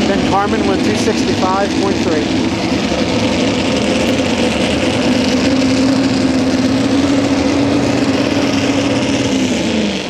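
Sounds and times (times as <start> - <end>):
truck engine running at raised revs: 0.0 - 10.0.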